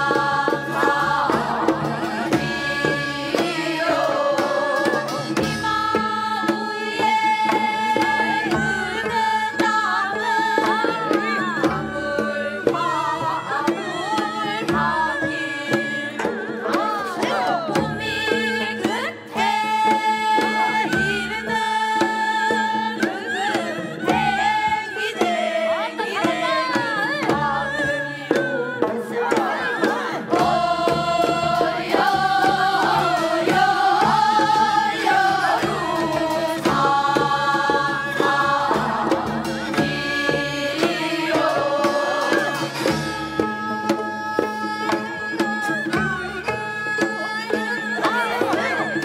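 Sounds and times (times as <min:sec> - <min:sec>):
drum strokes: 0:00.0 - 0:49.0
traditional singing: 0:00.0 - 0:49.0.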